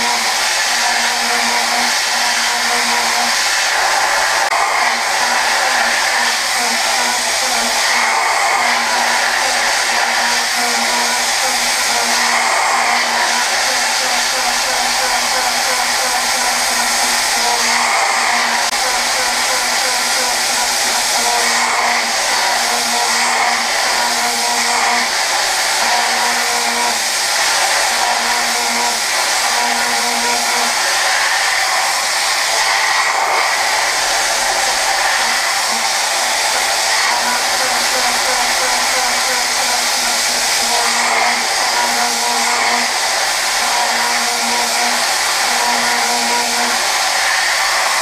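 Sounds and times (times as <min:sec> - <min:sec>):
machining hissing rush: 0:00.0 - 0:48.0.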